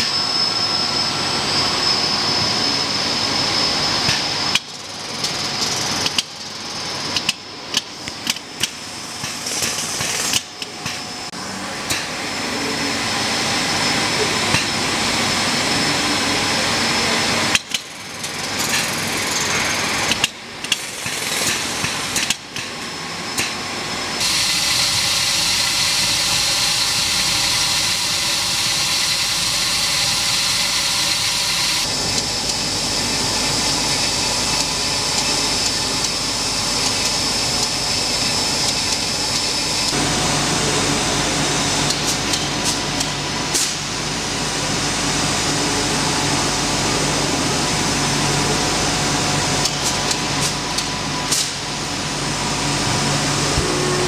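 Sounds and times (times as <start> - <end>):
factory machinery whining: 0.0 - 54.0.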